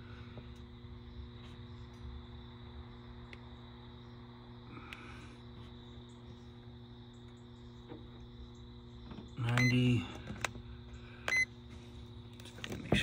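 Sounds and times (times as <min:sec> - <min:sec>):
faint mechanical hum: 0:00.0 - 0:13.0.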